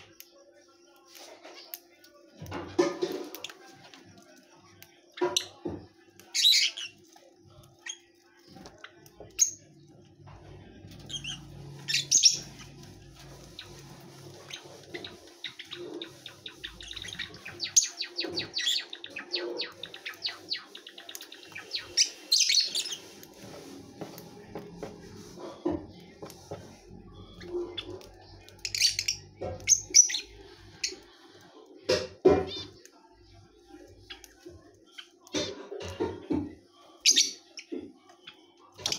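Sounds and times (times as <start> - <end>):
lovebirds chirping: 0.0 - 36.1.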